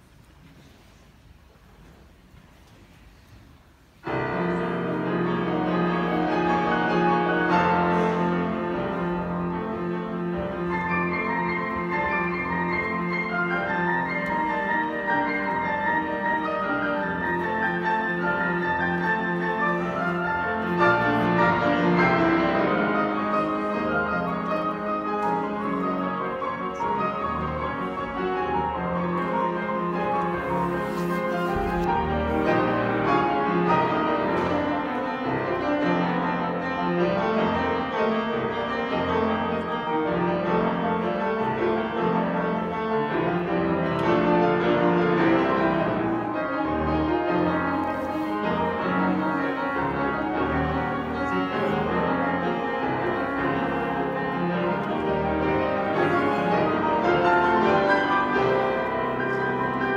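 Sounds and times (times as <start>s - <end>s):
grand piano duet: 0.0s - 59.9s.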